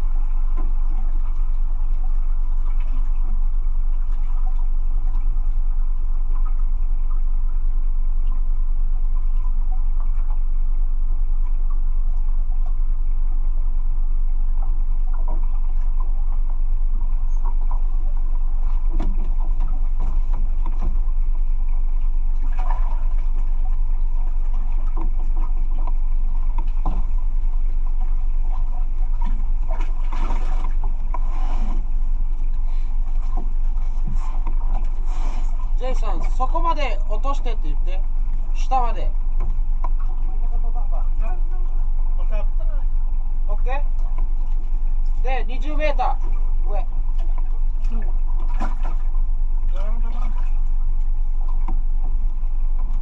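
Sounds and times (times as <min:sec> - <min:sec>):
boat engine idling: 0:00.0 - 0:53.0.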